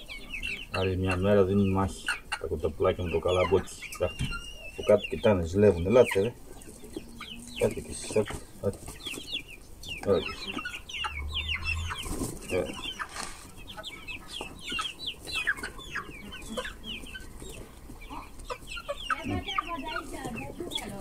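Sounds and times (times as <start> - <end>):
chicks clucking and cheeping: 0.0 - 21.0.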